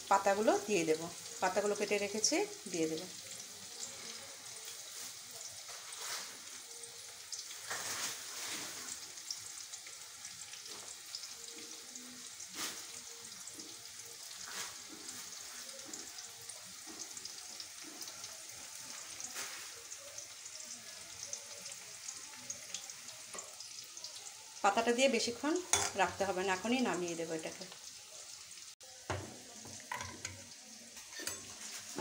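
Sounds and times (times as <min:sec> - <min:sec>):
leaves sizzling in a pan: 0:00.0 - 0:32.0.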